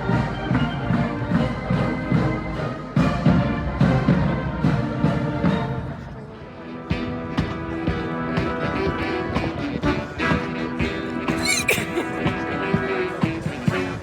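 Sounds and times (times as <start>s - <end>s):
brass and wind sustained chords: 0.0s - 11.4s, 12.0s - 14.0s.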